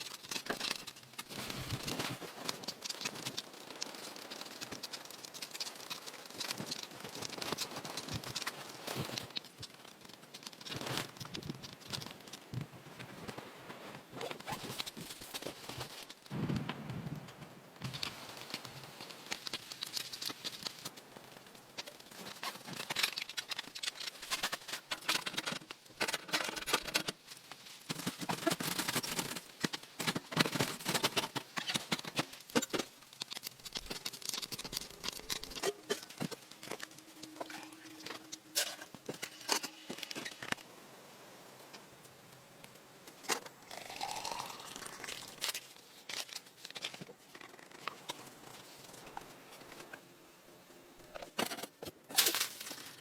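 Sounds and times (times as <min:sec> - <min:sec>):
rustling and crinkling handling: 0:00.0 - 0:40.7, 0:42.6 - 0:50.1, 0:51.0 - 0:53.0.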